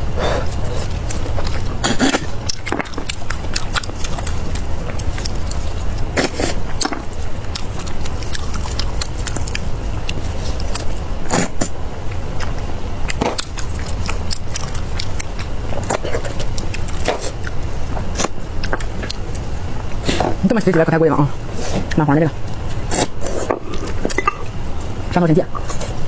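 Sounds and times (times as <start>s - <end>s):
person chewing crunchy food: 0.0s - 26.0s
steady low hum: 0.0s - 26.0s.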